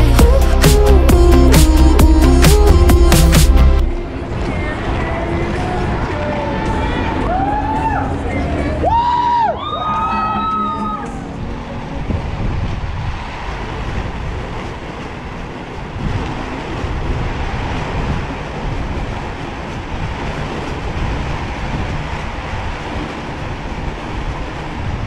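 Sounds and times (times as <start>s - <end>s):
roller skate wheels rolling on pavement: 4.1s - 25.0s.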